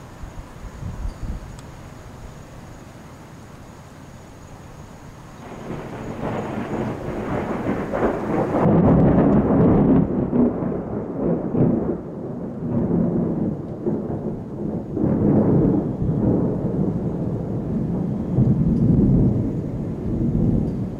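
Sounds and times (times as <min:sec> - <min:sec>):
rolling thunder rumbling: 0:03.8 - 0:20.9.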